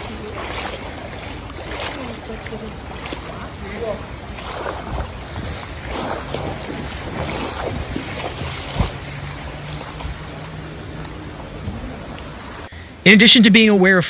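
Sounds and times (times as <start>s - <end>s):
floodwater rushing and splashing: 0.0s - 12.7s
wind buffeting microphone: 0.0s - 12.7s.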